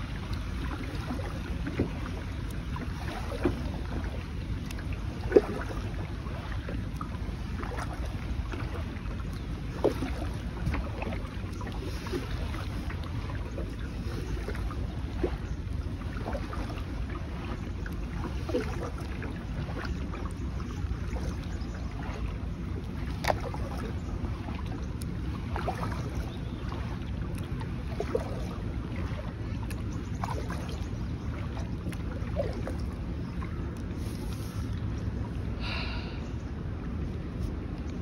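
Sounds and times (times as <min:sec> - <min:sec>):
water splashes against kayak: 0:00.0 - 0:38.0
wind rumble on microphone: 0:00.0 - 0:38.0.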